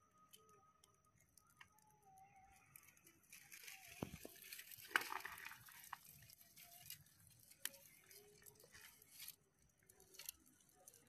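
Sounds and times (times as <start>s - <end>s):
dry twigs cracking and rustling: 0.2s - 11.0s.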